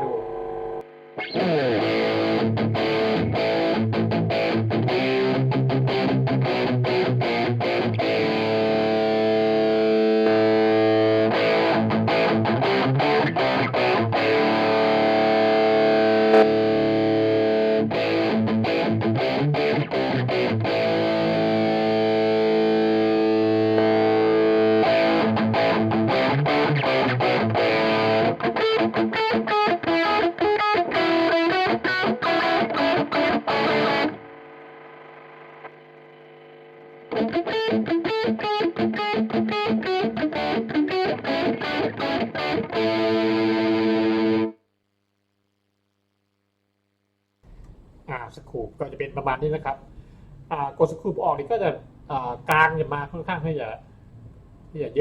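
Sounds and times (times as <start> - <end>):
distorted electric guitar chords: 0.0 - 44.6.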